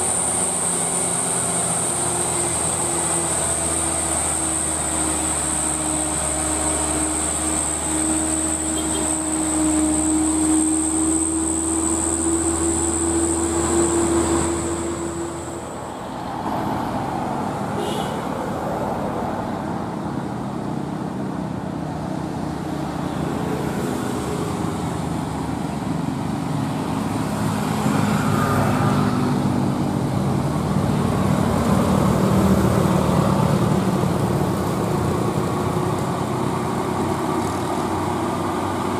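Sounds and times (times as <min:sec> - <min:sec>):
motorcycles: 0:00.0 - 0:16.1, 0:19.8 - 0:38.9
truck diesel engines labouring: 0:00.0 - 0:38.9
truck engine whine: 0:00.0 - 0:38.9.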